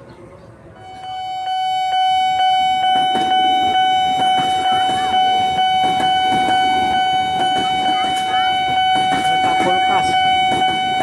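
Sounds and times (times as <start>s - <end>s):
level crossing alarm tone ticking: 0.8s - 11.0s.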